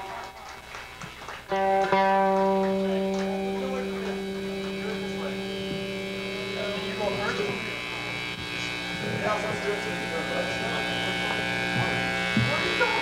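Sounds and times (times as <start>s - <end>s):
amplifier hum: 0.0s - 13.0s
electric guitar chord ringing: 1.5s - 13.0s.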